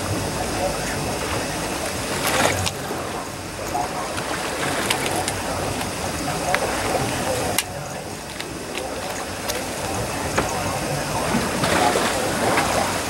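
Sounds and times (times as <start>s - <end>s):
water sloshing against boat hull: 0.0s - 13.0s.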